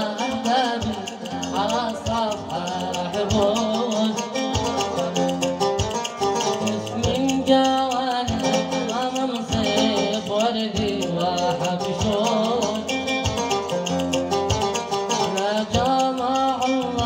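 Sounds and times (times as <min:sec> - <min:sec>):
drum beat: 0:00.0 - 0:16.1
plucked strings: 0:00.0 - 0:17.0.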